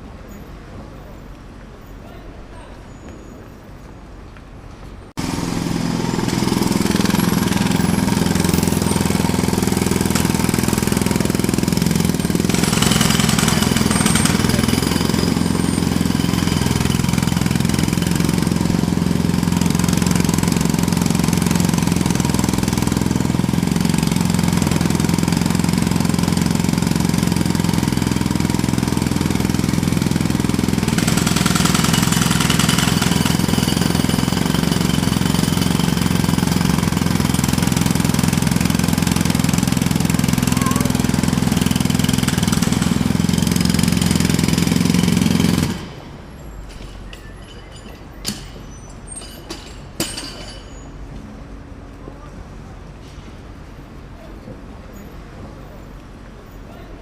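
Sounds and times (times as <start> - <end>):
jackhammer breaking: 5.2 - 51.0.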